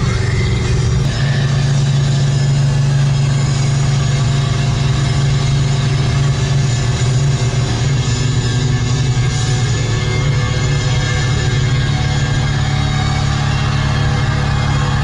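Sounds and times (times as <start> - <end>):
car engine droning: 0.0 - 15.0
road noise inside cabin: 0.0 - 15.0.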